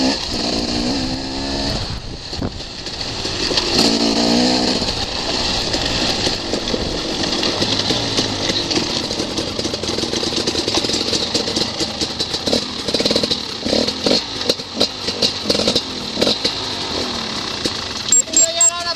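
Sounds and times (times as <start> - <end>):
dirt bike riding on gravel: 0.0 - 18.9
dirt bikes idling: 0.0 - 18.9.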